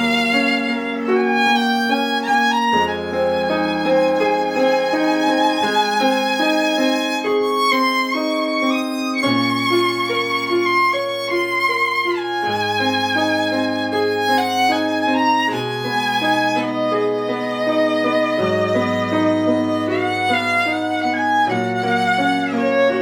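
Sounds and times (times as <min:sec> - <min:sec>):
piano accompaniment: 0:00.0 - 0:23.0
violin melody with vibrato: 0:00.0 - 0:23.0.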